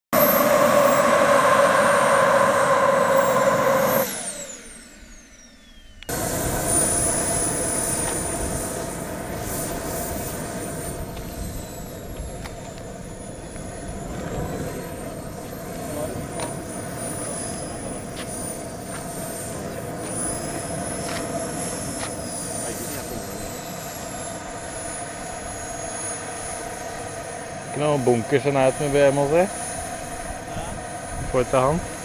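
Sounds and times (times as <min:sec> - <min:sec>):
model jet turbine whining: 0:00.1 - 0:32.0.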